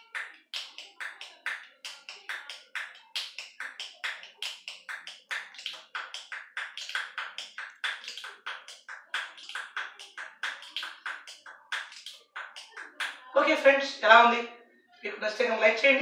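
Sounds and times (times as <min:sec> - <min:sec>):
fingers snapping: 0:00.0 - 0:13.3.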